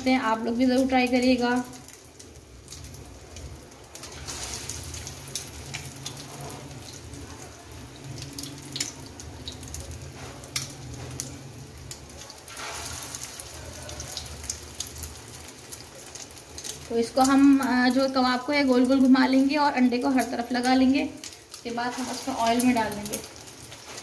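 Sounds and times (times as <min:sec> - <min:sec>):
food sizzling in frying pan: 0:00.0 - 0:24.0
oil spatter crackles: 0:00.0 - 0:24.0.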